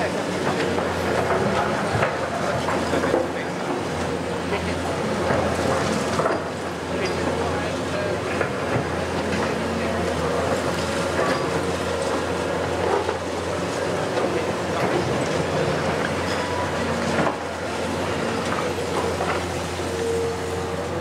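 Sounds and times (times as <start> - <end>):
excavator engine humming: 0.0 - 21.0.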